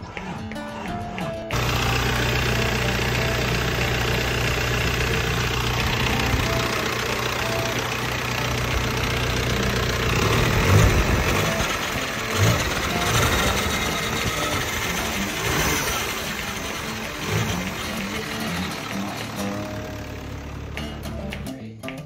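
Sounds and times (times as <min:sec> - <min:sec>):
engine idling: 0:01.5 - 0:21.5.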